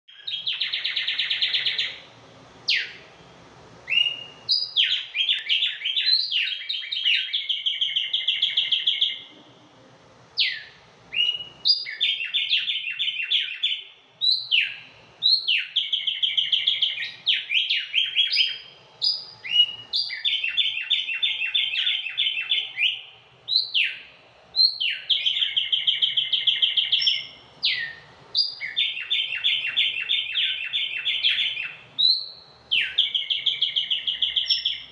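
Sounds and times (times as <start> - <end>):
songbirds singing trills: 0.1 - 9.4, 10.4 - 34.9.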